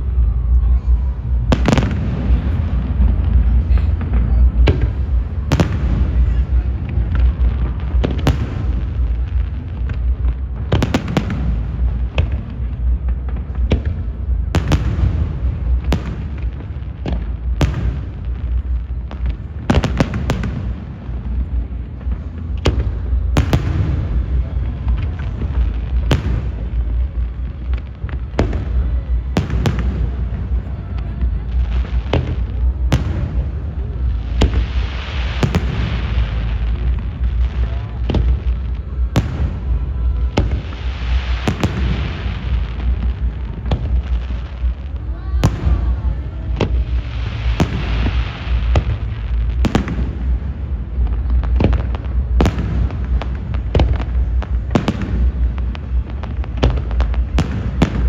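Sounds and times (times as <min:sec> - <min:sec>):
distant booms rumble: 0:00.0 - 0:58.0
fireworks bangs: 0:00.0 - 0:58.0.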